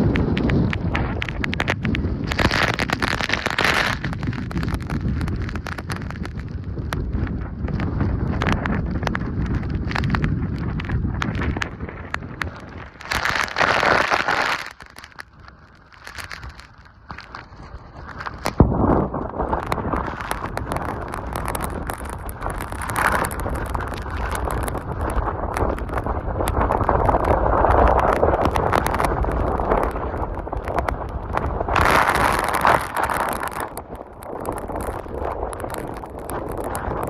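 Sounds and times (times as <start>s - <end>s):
gusty wind buffeting microphone: 0.0s - 37.0s.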